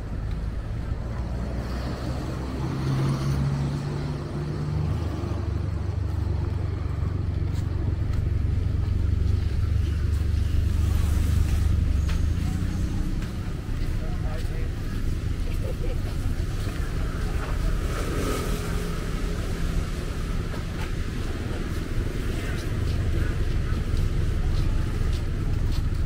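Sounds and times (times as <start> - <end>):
traffic engines rumbling: 0.0 - 26.0.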